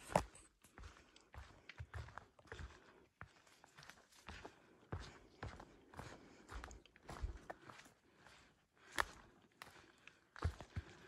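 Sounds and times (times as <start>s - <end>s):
footsteps on dirt trail: 0.0s - 8.0s, 8.8s - 11.0s.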